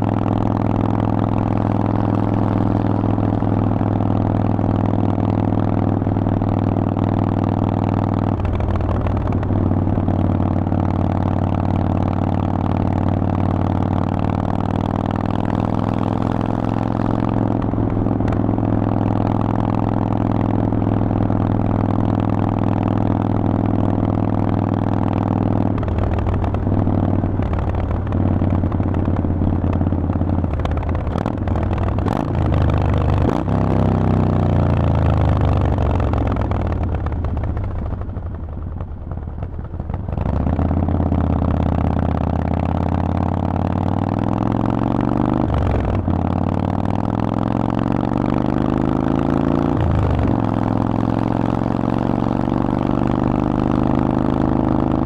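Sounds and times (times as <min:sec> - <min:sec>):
motorcycle engine revving: 0:00.0 - 0:38.2, 0:39.7 - 0:55.0.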